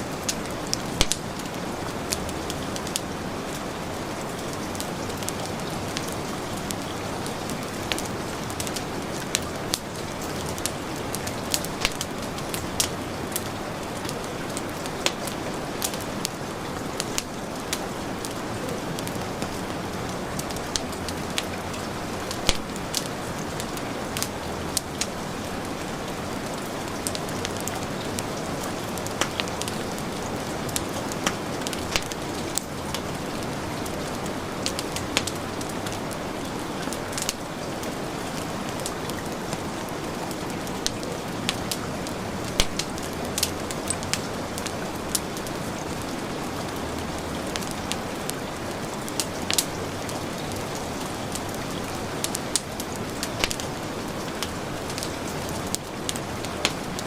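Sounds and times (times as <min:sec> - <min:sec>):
heavy rain: 0:00.0 - 0:57.0
wood fire crackling: 0:00.0 - 0:57.0.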